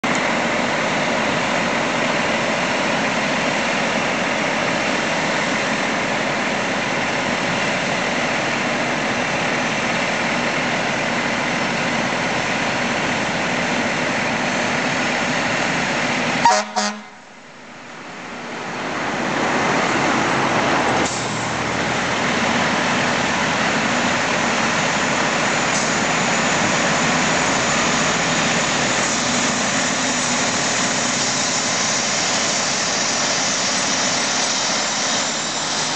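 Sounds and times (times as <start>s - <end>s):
fire engine diesel engine running: 0.0s - 35.9s.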